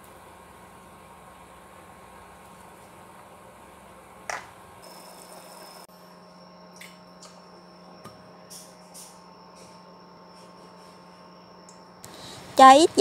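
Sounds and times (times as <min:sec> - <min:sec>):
induction hob high whine: 0:00.0 - 0:13.0.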